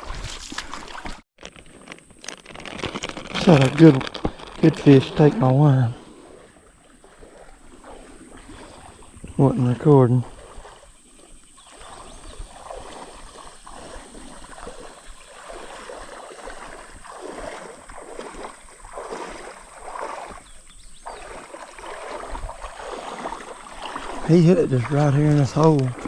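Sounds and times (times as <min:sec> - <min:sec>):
creek water sloshing: 0:00.0 - 0:26.0.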